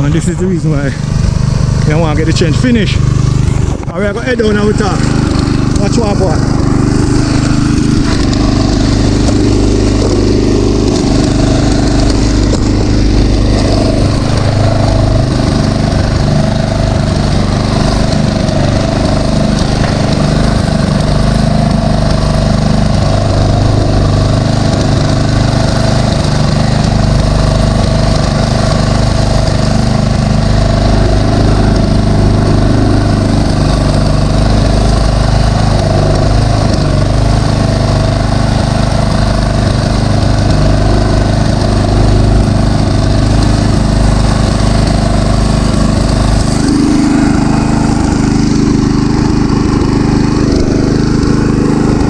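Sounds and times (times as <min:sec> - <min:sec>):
tiller engine running: 0:00.0 - 0:52.0.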